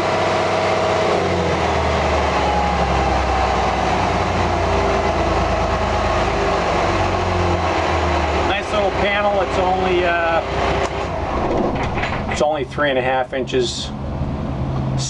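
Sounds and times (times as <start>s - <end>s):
marine diesel engine running: 0.0s - 15.0s.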